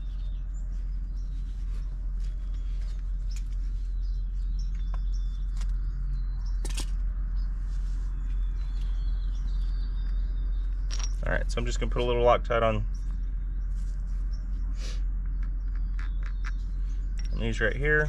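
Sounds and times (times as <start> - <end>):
birds chirping faintly: 0.0 - 18.0
steady low rumble: 0.0 - 18.0.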